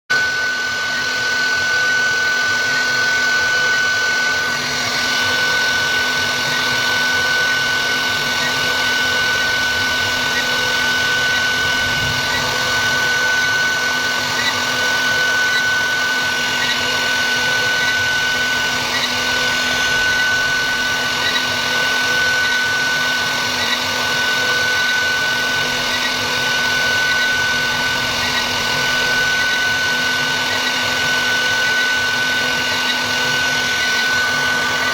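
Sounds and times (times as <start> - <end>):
bit cutting wood: 0.1 - 34.9
router spindle whine: 0.1 - 34.9.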